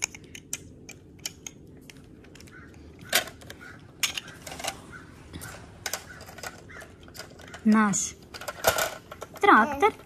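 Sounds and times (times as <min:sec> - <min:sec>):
plastic toys clicking and knocking: 0:00.0 - 0:04.8, 0:05.4 - 0:10.0.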